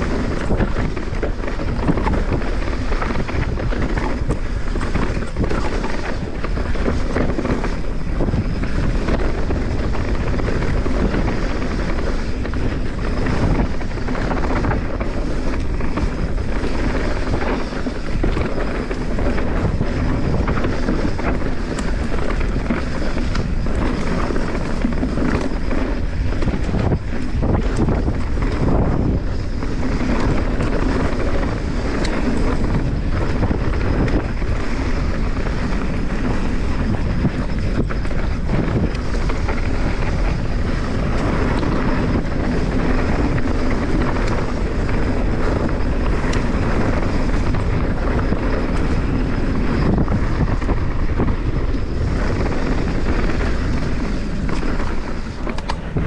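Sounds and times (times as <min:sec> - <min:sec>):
bike knocks and rattles: 0:00.0 - 0:56.0
tyres rolling over dirt and stones: 0:00.0 - 0:56.0
wind buffeting microphone: 0:00.0 - 0:56.0.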